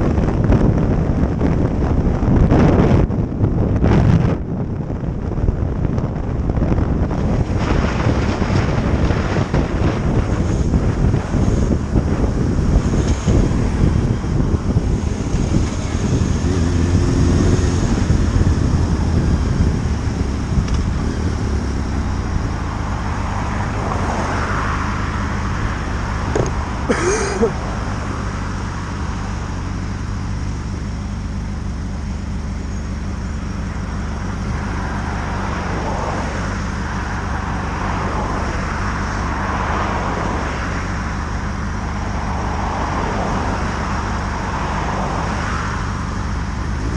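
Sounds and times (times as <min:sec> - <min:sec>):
wind buffeting microphone: 0:00.0 - 0:44.6
motorcycle engine: 0:00.0 - 0:46.9
road noise: 0:00.0 - 0:46.9.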